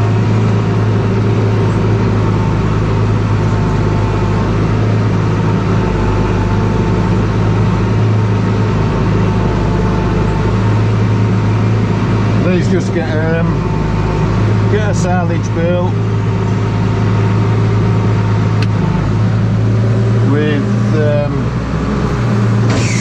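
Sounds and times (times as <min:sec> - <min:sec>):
tractor engine droning: 0:00.0 - 0:23.0.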